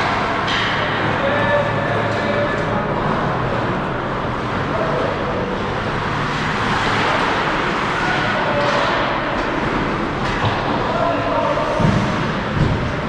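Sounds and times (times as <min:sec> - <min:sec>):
faint voices: 0:00.0 - 0:13.0
ice arena ambience: 0:00.0 - 0:13.0.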